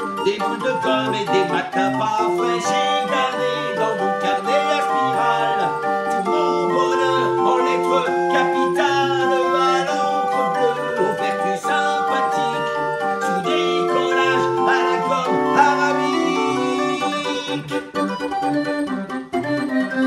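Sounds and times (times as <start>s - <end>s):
man singing: 0.0s - 17.9s
barrel organ melody: 0.0s - 20.0s.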